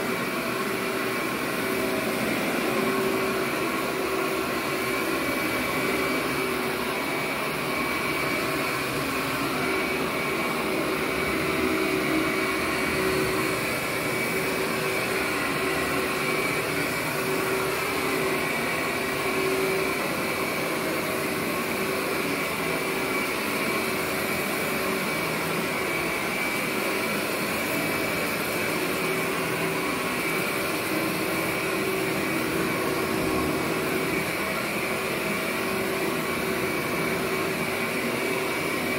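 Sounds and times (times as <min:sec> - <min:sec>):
vacuum cleaner running on carpet: 0:00.0 - 0:38.9.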